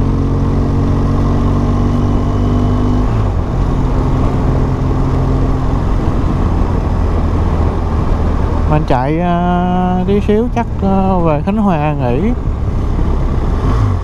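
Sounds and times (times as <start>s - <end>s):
motorcycle engine cruising: 0.0s - 14.0s
road noise: 0.0s - 14.0s
wind noise: 0.0s - 14.0s.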